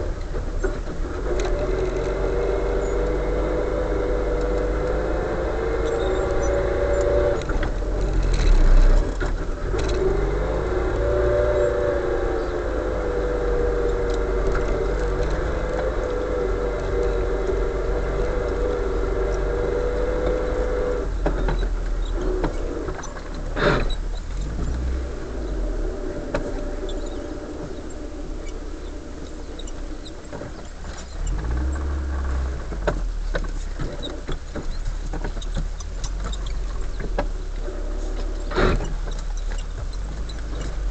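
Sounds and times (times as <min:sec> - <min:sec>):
car engine running: 0:00.0 - 0:40.9
road rumble: 0:00.0 - 0:40.9
small rattles: 0:00.0 - 0:40.9.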